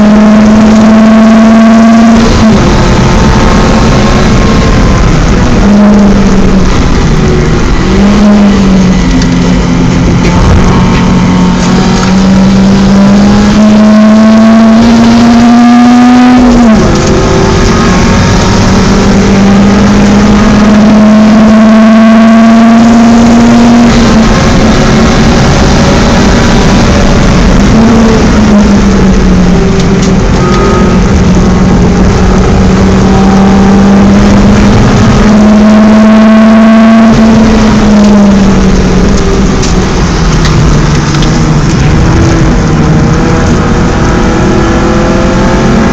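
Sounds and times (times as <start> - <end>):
car engine revving hard: 0.0 - 45.9
wind and tyre noise: 0.0 - 45.9.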